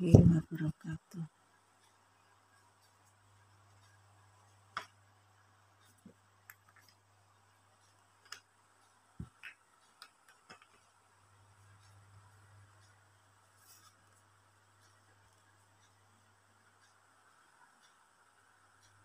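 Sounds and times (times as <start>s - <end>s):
low steady hum: 0.0s - 19.0s
faint clicks and taps: 0.1s - 19.0s.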